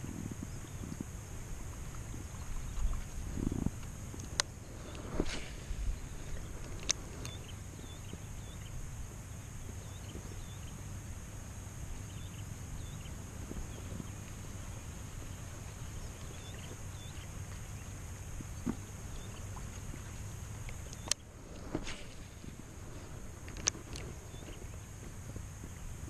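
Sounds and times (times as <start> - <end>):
faint chirps: 0.0 - 26.0
wind rumbling on microphone: 0.0 - 26.0.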